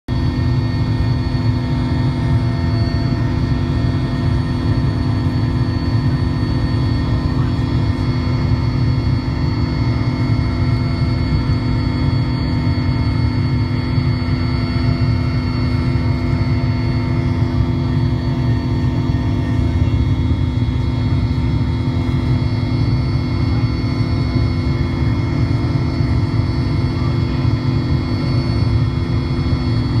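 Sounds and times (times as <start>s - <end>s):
helicopter engines and rotor drone: 0.1s - 30.0s
steady whining tones: 0.1s - 30.0s.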